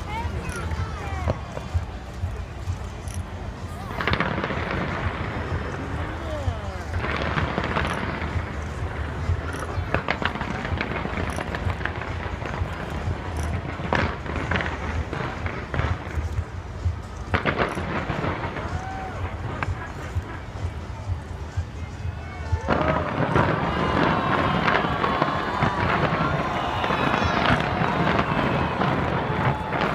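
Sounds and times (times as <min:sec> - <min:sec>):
fireworks bangs: 0:00.0 - 0:29.9
fireworks crackle: 0:00.0 - 0:29.9.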